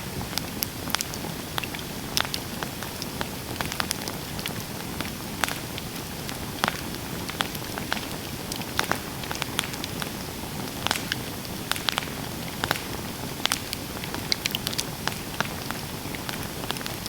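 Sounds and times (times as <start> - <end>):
campfire crackling and popping: 0.1 - 17.0.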